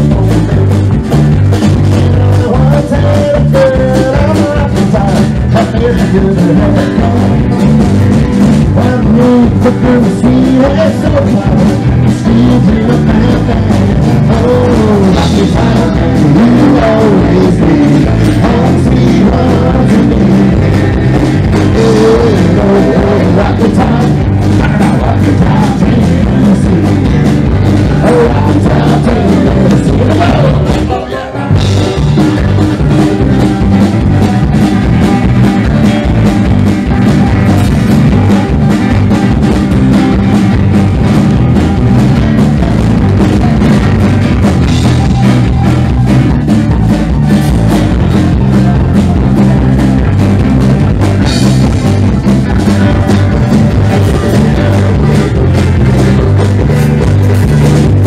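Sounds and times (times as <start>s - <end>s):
roots rock song: 0.0s - 58.0s.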